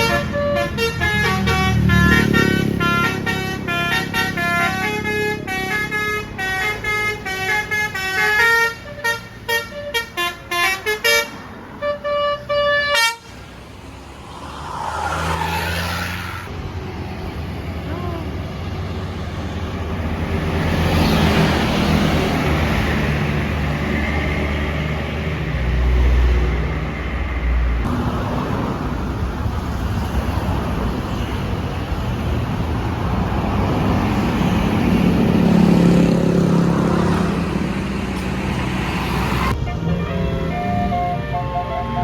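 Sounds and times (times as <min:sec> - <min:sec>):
vehicles passing: 0:00.0 - 0:42.0.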